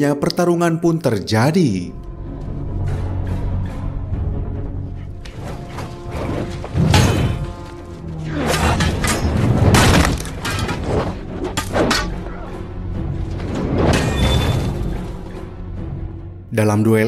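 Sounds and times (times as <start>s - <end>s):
soundtrack music: 0.3s - 17.0s.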